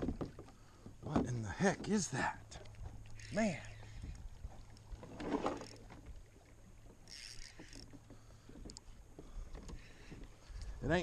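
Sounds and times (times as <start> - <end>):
water slapping kayak hull: 0.0 - 11.0.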